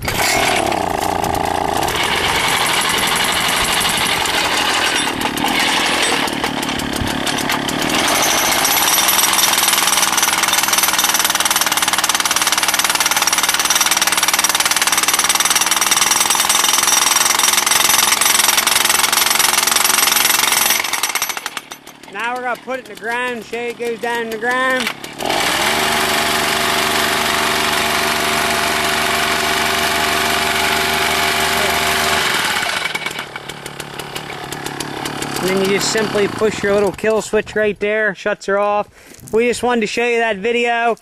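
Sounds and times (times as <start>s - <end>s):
jackhammer hammering on stone: 0.0s - 37.2s.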